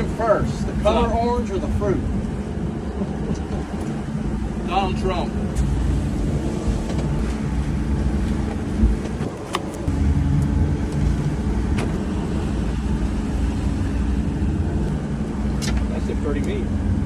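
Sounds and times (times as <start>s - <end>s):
boat engines droning: 0.0s - 17.0s
rush of hull and wake: 0.0s - 17.0s.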